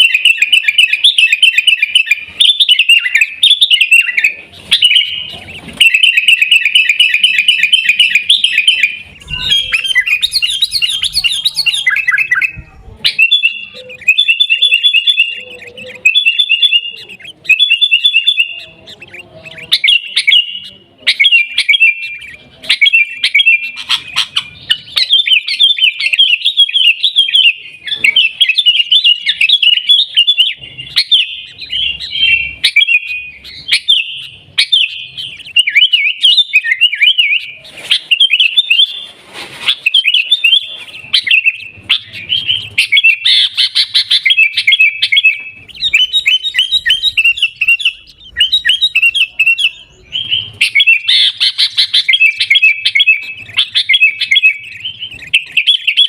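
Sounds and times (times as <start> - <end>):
bird singing and chattering: 0.0 - 56.0.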